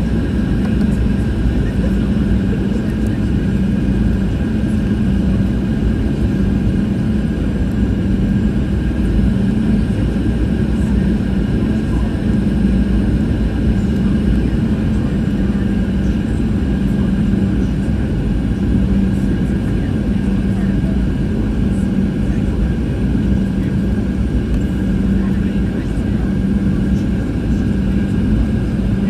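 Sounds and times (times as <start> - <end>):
constant low hum: 0.0 - 29.0
jet engine and airflow rush: 0.0 - 29.0.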